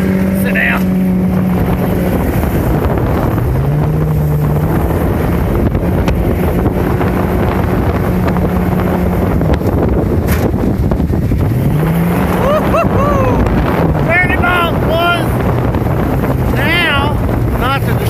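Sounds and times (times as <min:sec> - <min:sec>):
outboard motor at full throttle: 0:00.0 - 0:18.0
wind on microphone: 0:00.0 - 0:18.0.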